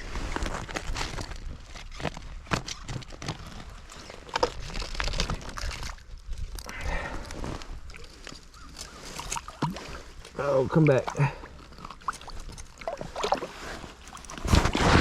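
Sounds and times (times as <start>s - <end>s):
fishing gear knocks and rustling: 0.4s - 10.4s, 11.1s - 15.0s.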